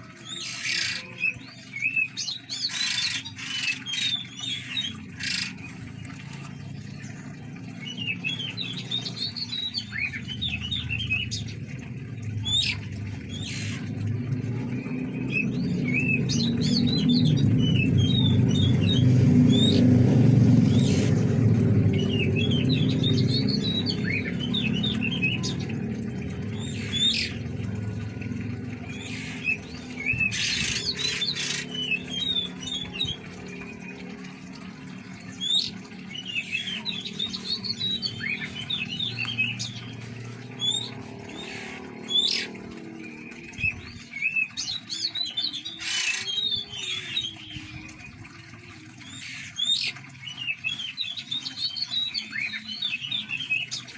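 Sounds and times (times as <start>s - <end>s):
birds chirping and twittering: 0.0s - 53.9s.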